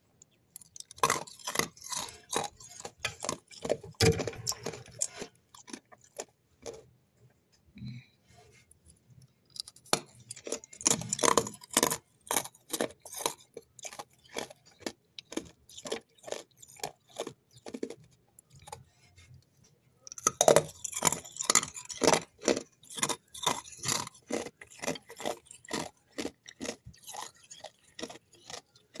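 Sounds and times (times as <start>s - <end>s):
ice being chewed: 0.2s - 6.9s, 8.7s - 29.0s.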